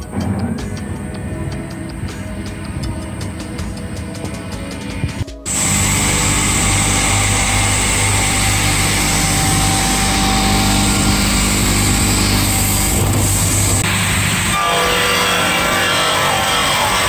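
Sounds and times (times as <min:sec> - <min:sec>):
high saw whine: 0:00.0 - 0:17.0
low motor hum: 0:00.0 - 0:17.0.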